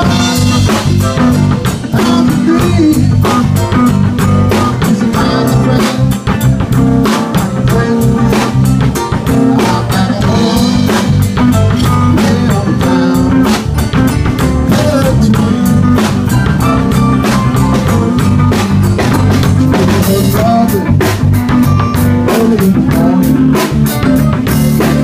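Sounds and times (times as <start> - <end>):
bass guitar: 0.0 - 25.0
drum kit beat: 0.0 - 25.0
electric guitar: 0.0 - 25.0.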